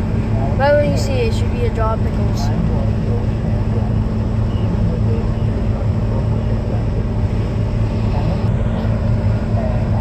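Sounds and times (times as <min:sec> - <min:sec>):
constant low hum: 0:00.0 - 0:10.0
truck engine and road noise: 0:00.0 - 0:10.0.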